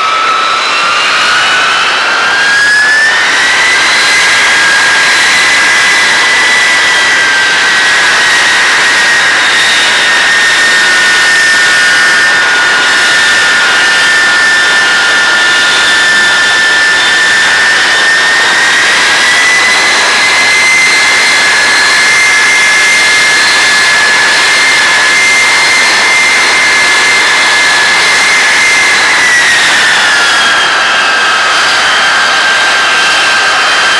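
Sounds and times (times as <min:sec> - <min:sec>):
jet engines whining: 0:00.0 - 0:33.9.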